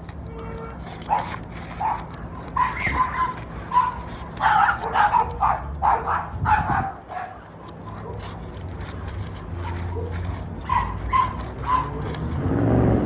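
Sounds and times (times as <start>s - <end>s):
dog yapping barks: 1.0s - 12.4s.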